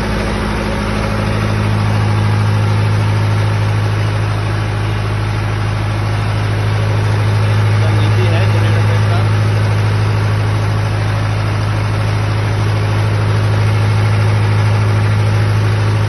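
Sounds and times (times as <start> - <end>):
diesel generator running: 0.0 - 16.0.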